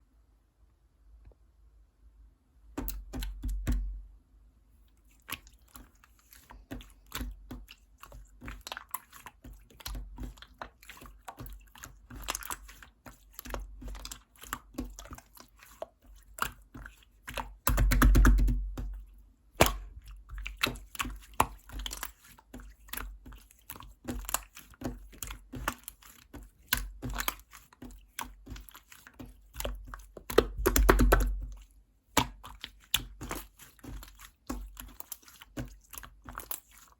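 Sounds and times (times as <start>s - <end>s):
slime squelching: 2.8s - 4.0s, 4.8s - 36.9s.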